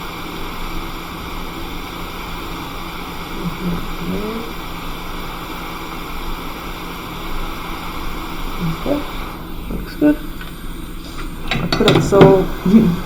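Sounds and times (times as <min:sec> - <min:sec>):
hot air station blowing hiss: 0:00.0 - 0:13.0.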